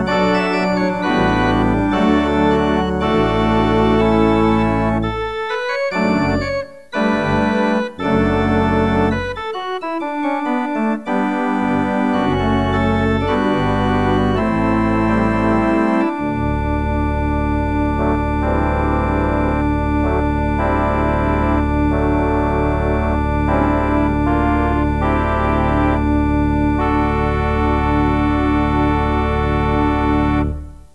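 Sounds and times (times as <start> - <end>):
deep organ bass notes: 0.0 - 30.9
organ chords: 0.0 - 30.9.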